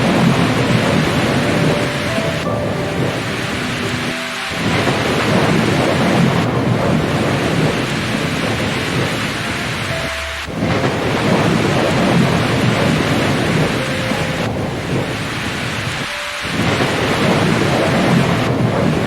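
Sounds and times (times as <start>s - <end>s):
heavy rain falling: 0.0s - 19.0s
low thunder rumbling: 0.0s - 19.0s.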